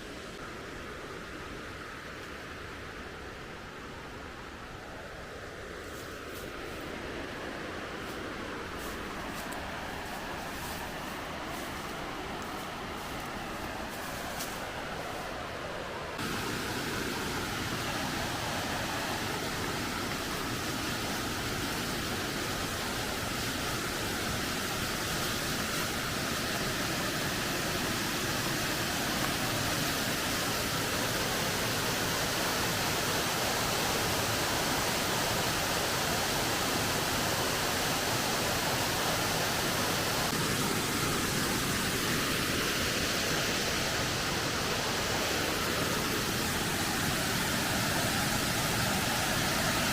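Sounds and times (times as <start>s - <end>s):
waterfall rushing: 6.9s - 49.9s.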